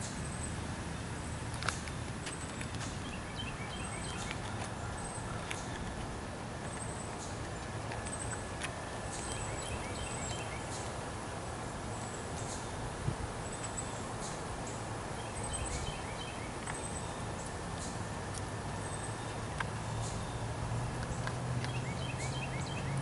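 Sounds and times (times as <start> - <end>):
low outdoor rumble: 0.0 - 23.0
small birds chirping: 0.0 - 23.0.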